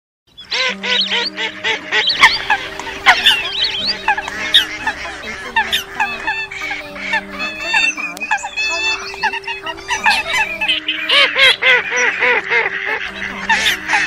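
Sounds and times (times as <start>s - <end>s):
waterfowl honks and squawks: 0.3s - 14.0s.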